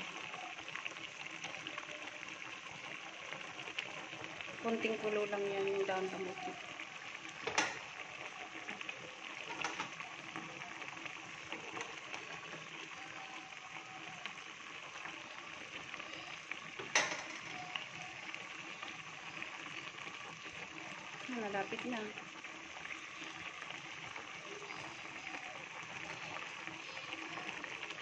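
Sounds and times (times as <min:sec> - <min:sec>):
stew bubbling in a pot: 0:00.0 - 0:28.0.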